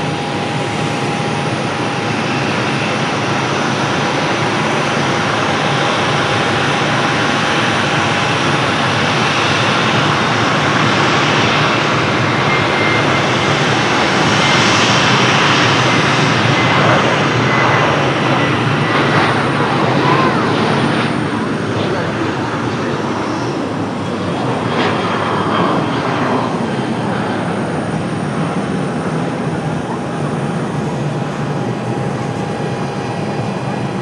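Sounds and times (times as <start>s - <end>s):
jet engine whine: 0.0s - 34.0s
jet engines running: 0.0s - 34.0s.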